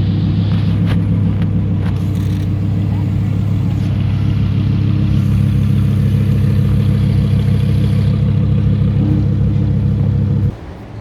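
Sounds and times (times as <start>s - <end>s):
sports car engine idling: 0.0s - 10.6s.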